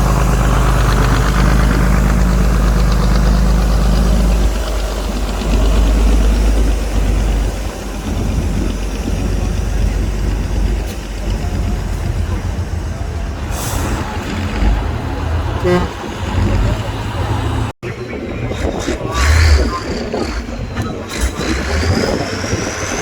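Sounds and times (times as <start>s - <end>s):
heavy truck engine droning: 0.0s - 23.0s.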